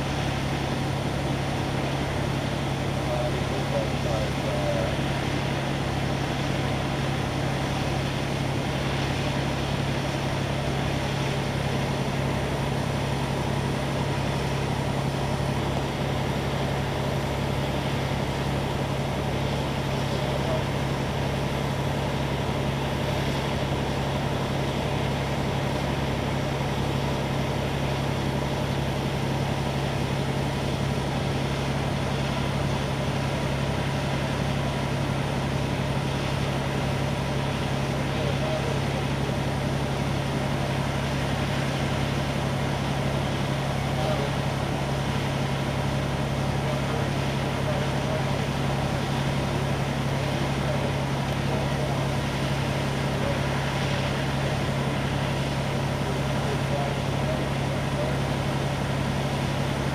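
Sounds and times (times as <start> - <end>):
pump engines droning: 0.0 - 59.9.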